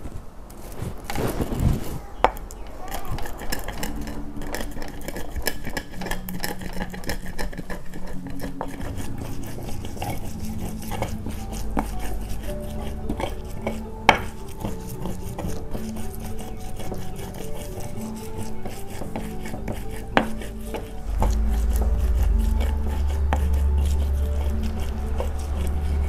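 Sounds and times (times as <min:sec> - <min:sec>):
pestle pounding in stone mortar: 0:02.9 - 0:26.0.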